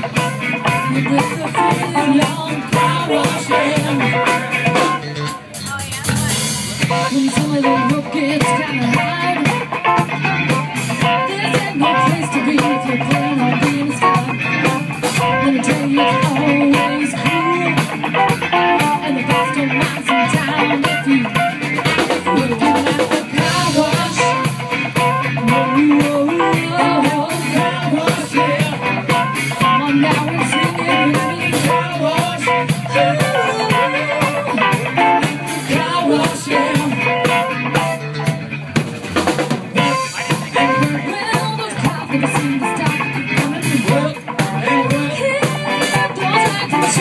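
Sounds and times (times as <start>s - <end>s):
woman singing: 0.0s - 4.9s, 5.6s - 37.9s, 39.8s - 47.0s
drum kit with rimshots: 0.0s - 47.0s
electric guitars: 0.0s - 47.0s.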